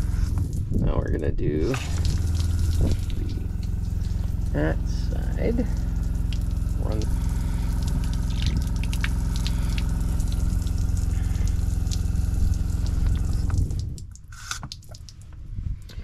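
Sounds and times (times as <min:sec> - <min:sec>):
water pump humming: 0:00.0 - 0:00.6, 0:01.6 - 0:15.4
water spraying onto concrete: 0:01.6 - 0:15.3.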